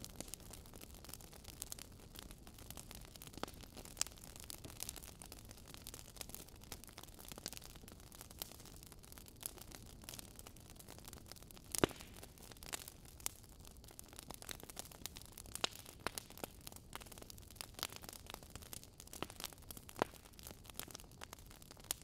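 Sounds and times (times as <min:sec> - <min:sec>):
fireplace crackling: 0:00.0 - 0:22.0.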